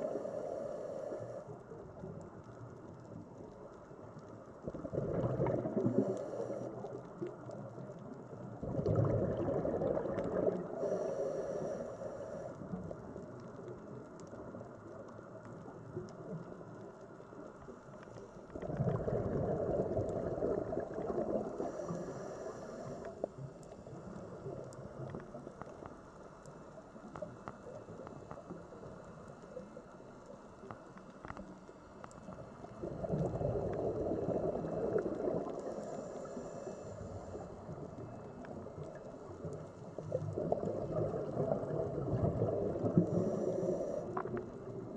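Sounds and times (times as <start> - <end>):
exhaled bubbles gurgling underwater: 0.0 - 30.3, 32.1 - 44.9
water noise: 0.0 - 44.9.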